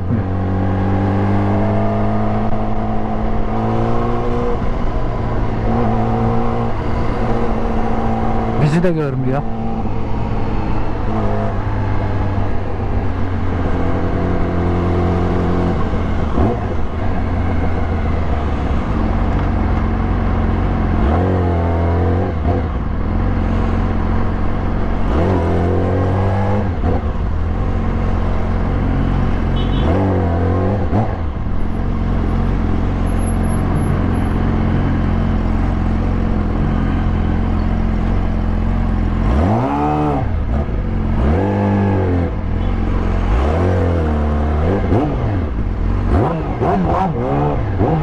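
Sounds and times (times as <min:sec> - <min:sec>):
motorcycle engine revving: 0:00.0 - 0:08.8, 0:09.4 - 0:48.0.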